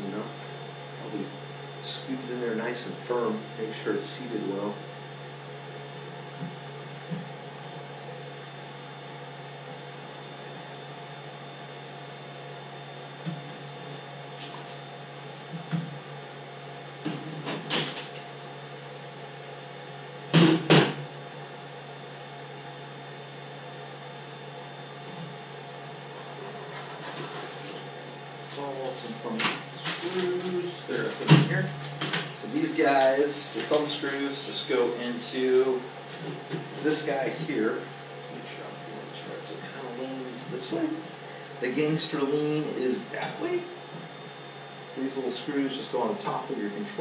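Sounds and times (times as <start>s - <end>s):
cooling fans humming: 0.0s - 47.0s.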